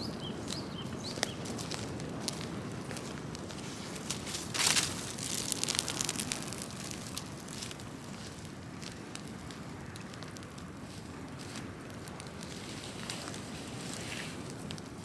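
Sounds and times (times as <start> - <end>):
bonfire burning and crackling: 0.0 - 15.0.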